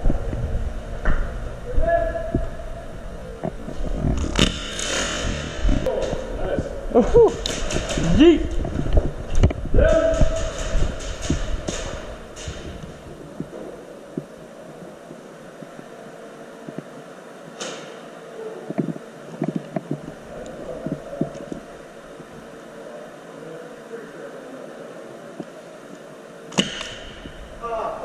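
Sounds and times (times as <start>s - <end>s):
indoor hall hum: 0.0s - 28.0s.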